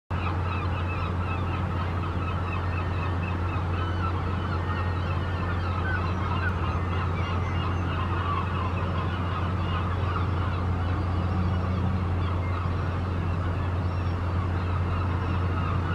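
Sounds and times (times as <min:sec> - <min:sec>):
flock of birds honking: 0:00.2 - 0:15.9
low machinery hum: 0:00.2 - 0:15.9.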